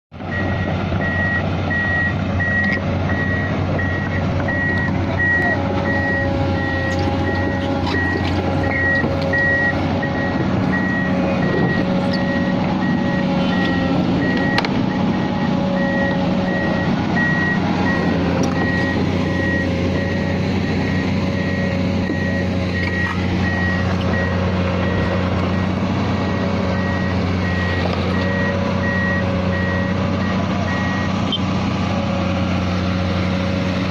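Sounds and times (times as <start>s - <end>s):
diesel engine running: 0.1s - 33.9s
travel alarm beeping: 0.4s - 31.4s.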